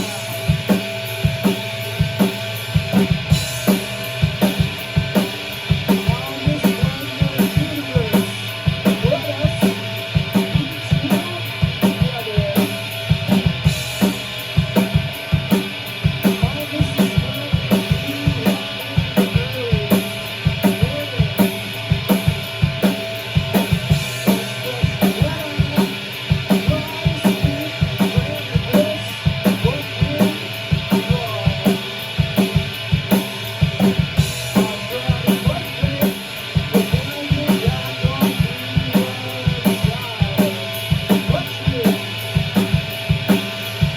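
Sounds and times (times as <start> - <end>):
bending electric guitar: 0.0 - 43.9
rock band playing live: 0.0 - 43.9.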